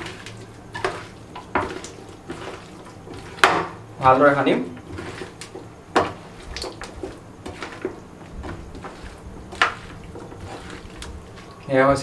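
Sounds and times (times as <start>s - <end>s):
wet squishing of mixed meat: 0.0s - 4.1s, 4.8s - 11.8s.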